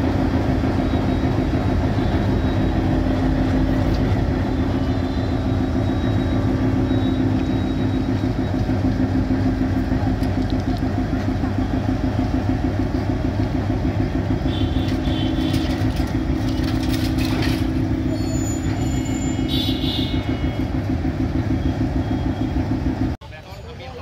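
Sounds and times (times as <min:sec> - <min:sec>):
diesel locomotive engine running: 0:00.0 - 0:23.7.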